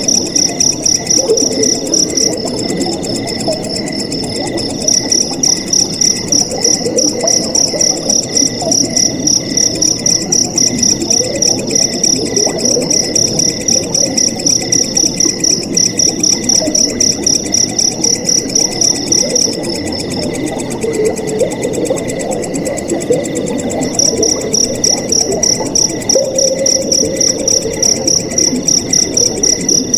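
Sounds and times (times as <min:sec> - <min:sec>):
crickets chirping: 0:00.0 - 0:29.9
flowing water: 0:00.0 - 0:29.9
lower cricket chirring: 0:00.0 - 0:29.9.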